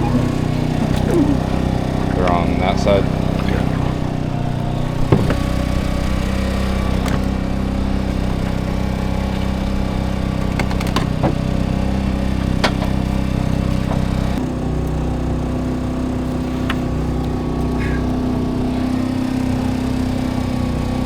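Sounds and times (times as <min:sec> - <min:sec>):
generator engine droning: 0:00.0 - 0:21.0.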